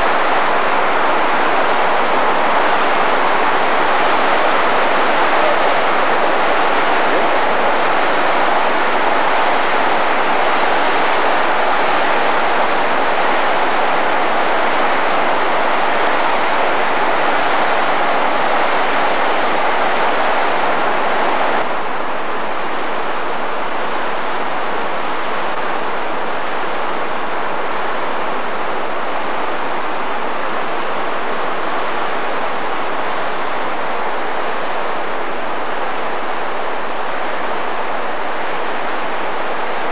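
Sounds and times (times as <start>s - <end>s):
whitewater rushing over rapids: 0.0s - 39.9s.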